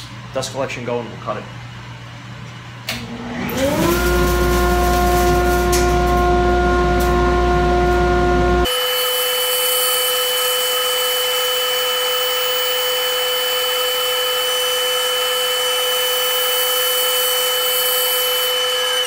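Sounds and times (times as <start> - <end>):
dust collector running: 2.9 - 19.0
bandsaw whining: 3.0 - 19.0.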